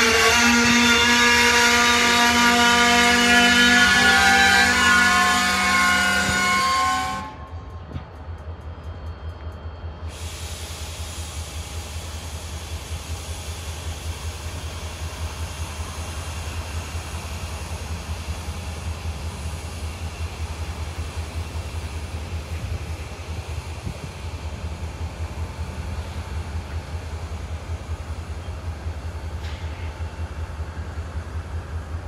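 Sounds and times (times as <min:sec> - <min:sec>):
freight train rumbling: 0:00.0 - 0:32.0.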